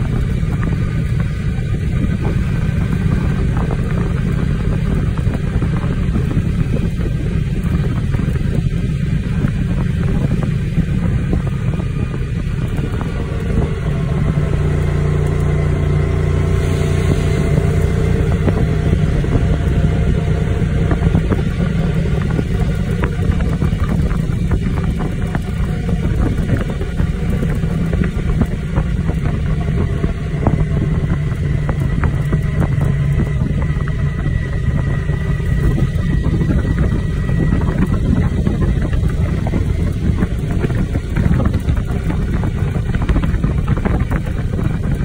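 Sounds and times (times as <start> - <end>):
motorcycle engine running: 0.0 - 45.0
wind and road noise: 0.0 - 45.0.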